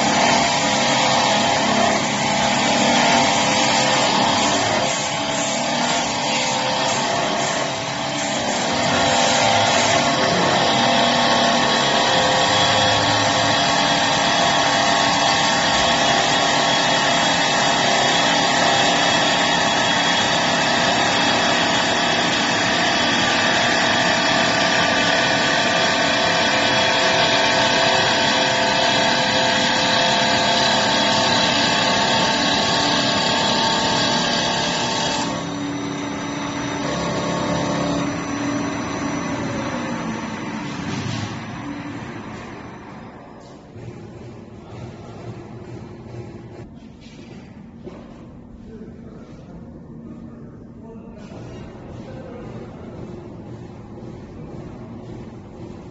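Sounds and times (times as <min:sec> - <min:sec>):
wood lathe running: 0:00.0 - 0:46.6.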